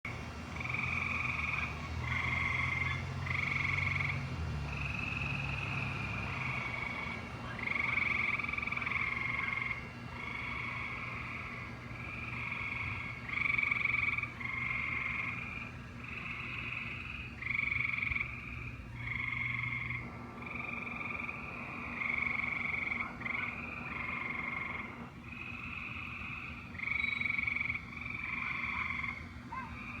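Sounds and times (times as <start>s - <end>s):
low steady hum: 0.0s - 30.0s
frogs calling: 0.1s - 30.0s.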